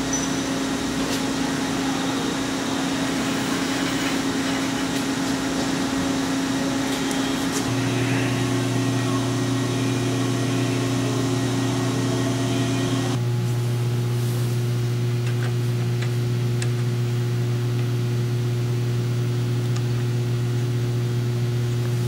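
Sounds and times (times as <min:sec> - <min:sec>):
woodworking machinery humming: 0:00.0 - 0:22.0.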